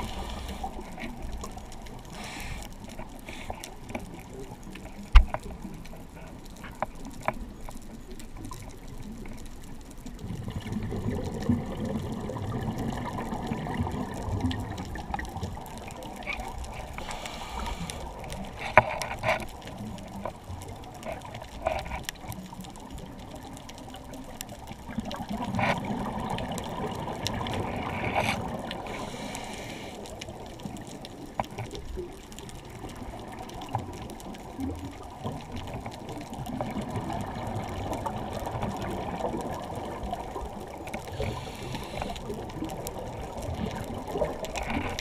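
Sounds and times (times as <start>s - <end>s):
underwater bubbles gurgling: 0.0s - 45.0s.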